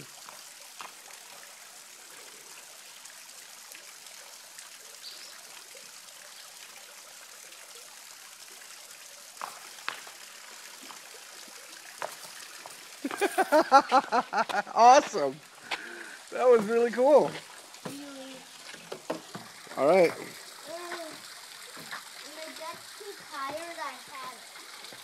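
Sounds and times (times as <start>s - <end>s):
creek water trickling: 0.0s - 25.0s.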